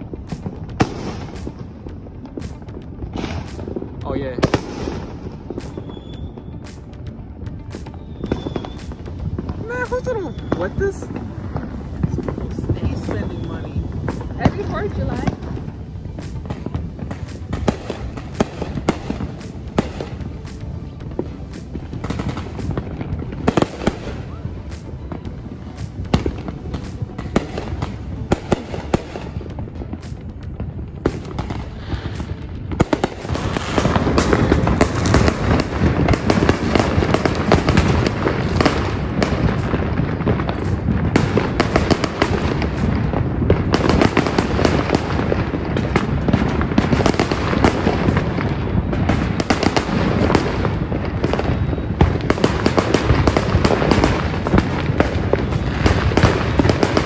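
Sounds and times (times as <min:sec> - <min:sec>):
fireworks and firecrackers crackling: 0:00.0 - 0:57.0.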